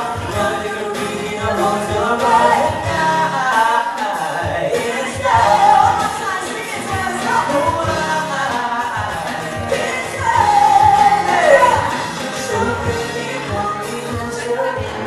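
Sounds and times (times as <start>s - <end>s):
steady drum beat: 0.0s - 15.0s
strummed guitar: 0.0s - 15.0s
woman singing: 0.0s - 15.0s.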